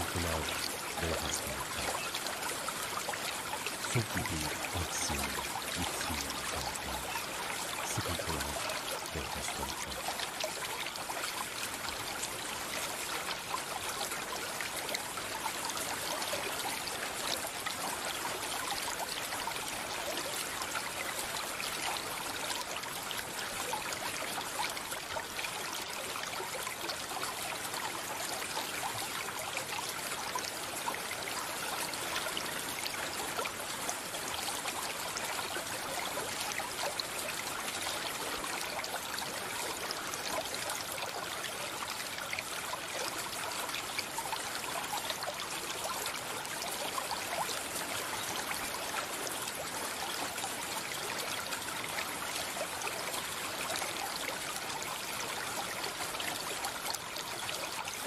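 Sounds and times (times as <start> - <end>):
stream flowing and trickling: 0.0 - 58.0.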